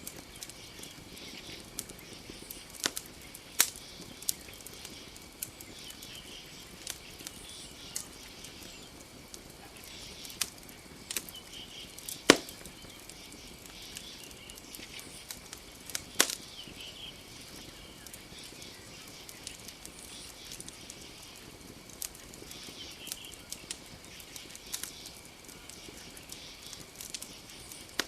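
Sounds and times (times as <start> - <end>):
campfire crackling and popping: 0.0 - 28.0
faint chirps: 0.0 - 28.0
night forest ambience hiss: 0.0 - 28.0.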